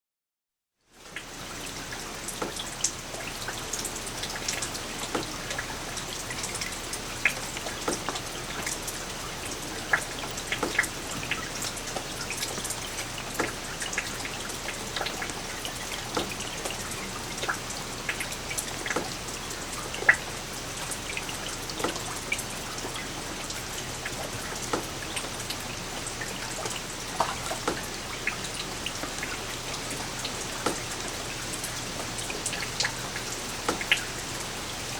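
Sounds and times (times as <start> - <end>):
light rain hissing: 0.9 - 34.9
raindrops tapping: 1.0 - 34.9.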